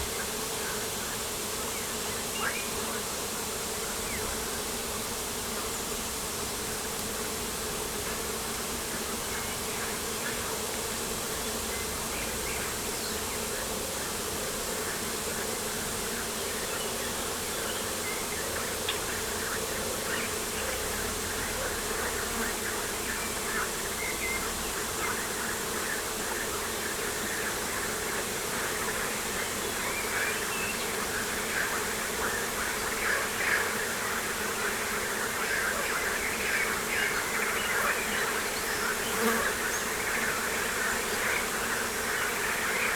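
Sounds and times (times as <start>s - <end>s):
insects buzzing: 0.0s - 42.9s.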